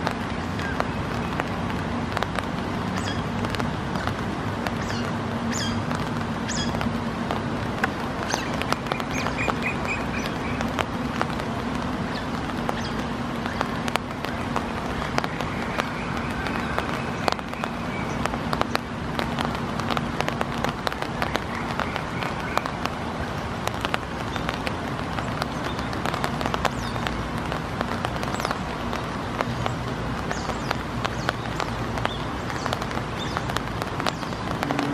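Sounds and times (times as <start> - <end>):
heavy rain on pond: 0.0 - 34.9.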